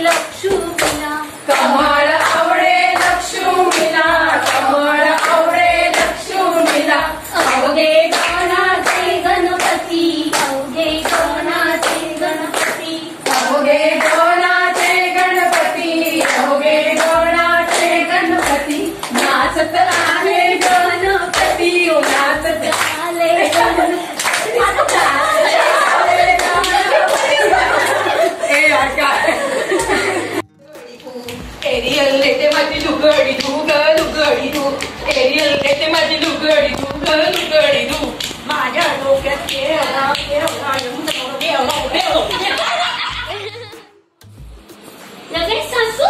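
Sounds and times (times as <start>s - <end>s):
hands clapping a beat: 0.0s - 28.1s, 30.6s - 42.9s
women singing together: 0.0s - 43.6s.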